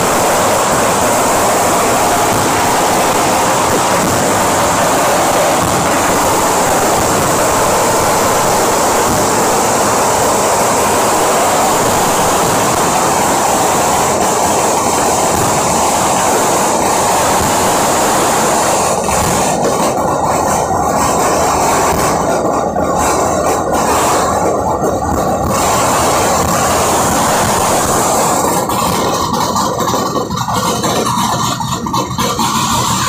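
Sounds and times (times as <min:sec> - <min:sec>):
fireworks barrage: 0:00.0 - 0:33.0.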